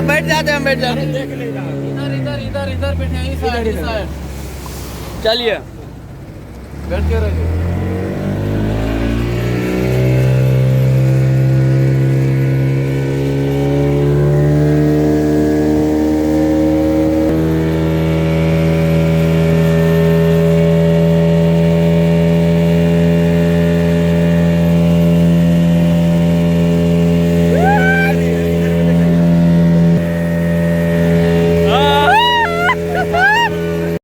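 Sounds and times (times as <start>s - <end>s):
motorboat engine running: 0.0s - 34.0s.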